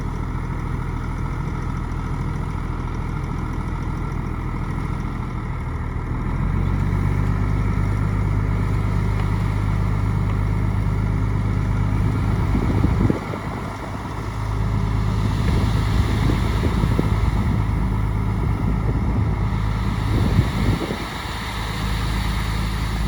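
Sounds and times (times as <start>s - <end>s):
bulldozer diesel engine running: 0.0s - 23.0s
low machine rattling: 0.0s - 23.0s.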